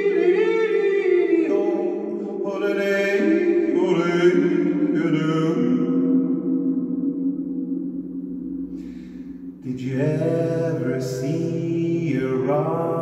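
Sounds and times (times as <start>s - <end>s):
man yodeling with echo: 0.0s - 13.0s.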